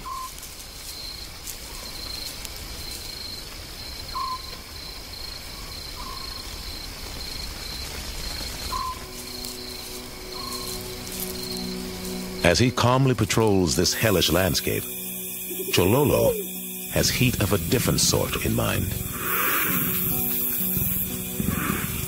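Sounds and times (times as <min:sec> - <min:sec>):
grass fire crackling: 0:00.0 - 0:22.0
insects trilling: 0:00.0 - 0:22.0.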